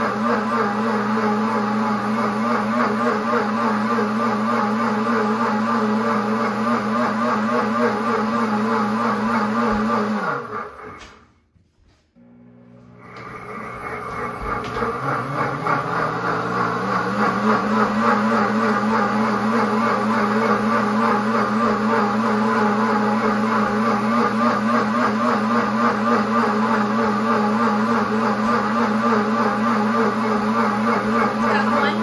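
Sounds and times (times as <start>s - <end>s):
blender motor whirring: 0.0s - 11.2s, 12.2s - 32.0s.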